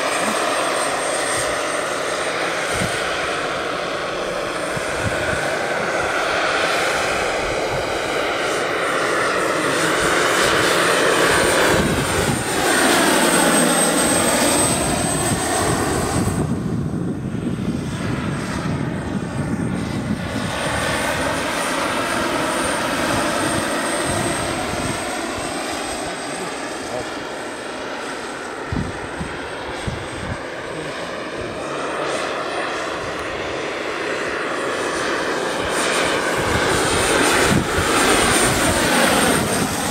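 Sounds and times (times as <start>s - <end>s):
helicopter rotor noise: 0.0s - 39.9s
turbine whine: 0.0s - 39.9s.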